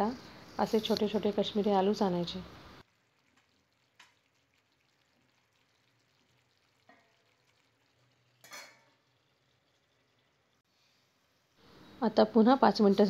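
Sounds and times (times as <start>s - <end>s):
faint sizzle of curry cooking: 0.0s - 13.0s.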